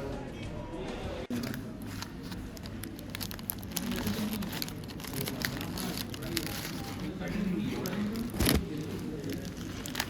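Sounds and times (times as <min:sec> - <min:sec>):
murmur of voices: 0:00.0 - 0:10.0
crinkling and rustling: 0:01.3 - 0:10.0.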